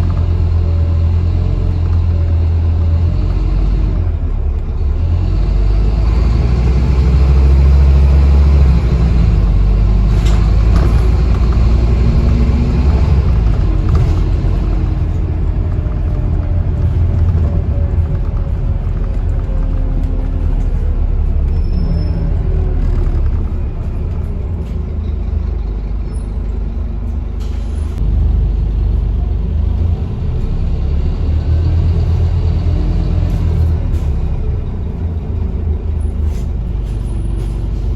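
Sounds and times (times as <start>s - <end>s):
bus rumbling: 0.0s - 37.9s.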